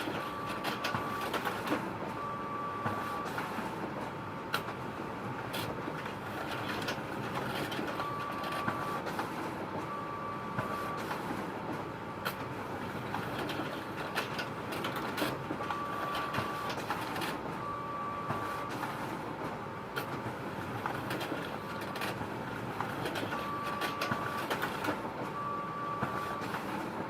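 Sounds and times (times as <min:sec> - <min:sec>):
photocopier humming: 0:00.0 - 0:27.0.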